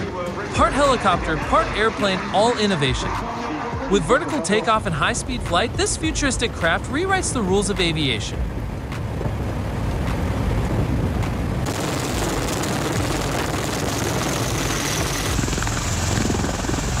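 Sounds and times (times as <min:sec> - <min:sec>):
aircraft rotor and engine noise: 0:00.0 - 0:17.0.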